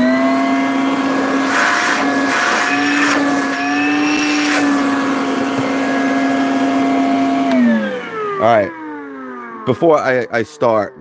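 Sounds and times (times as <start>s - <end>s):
wet dry vacuum motor whine: 0.0s - 11.0s.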